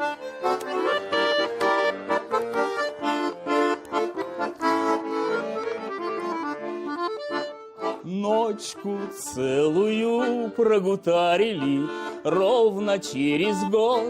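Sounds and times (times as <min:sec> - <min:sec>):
accordion folk melody: 0:00.0 - 0:14.0.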